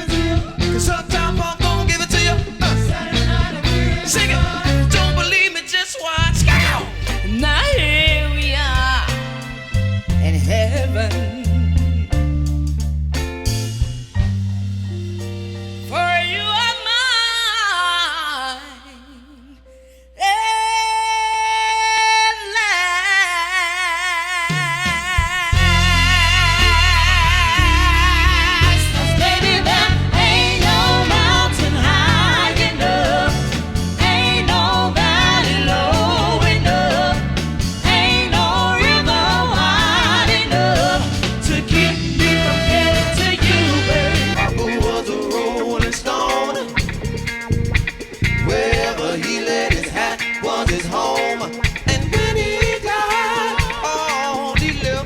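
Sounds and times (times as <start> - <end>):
wordless singing with vibrato: 0.0 - 11.8, 15.8 - 55.0
live soul band playing: 0.0 - 18.6, 24.4 - 55.0.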